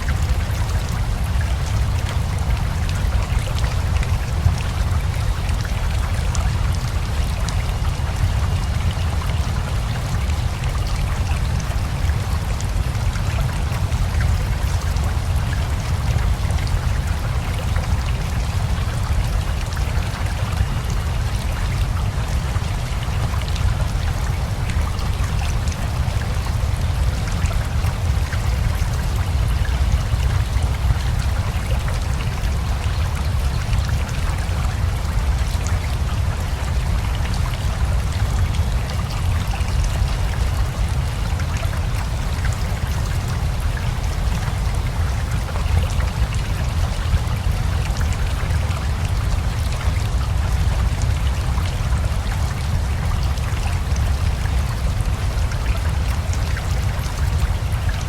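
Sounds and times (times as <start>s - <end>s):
rushing river: 0.0s - 58.0s
steady rain: 0.0s - 58.0s.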